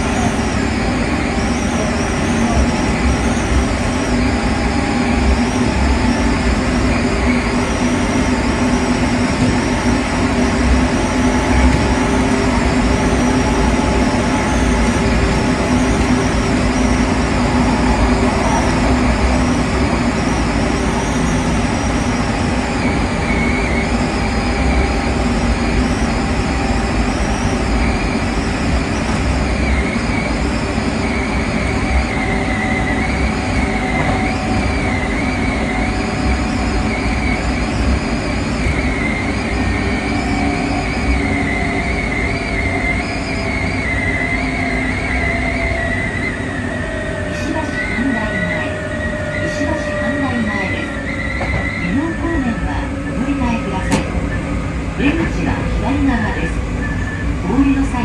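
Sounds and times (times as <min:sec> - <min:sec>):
high wheel squeal: 0:00.0 - 0:58.0
train motor tone: 0:00.0 - 0:58.0
train wheels rumbling on rail: 0:00.0 - 0:58.0.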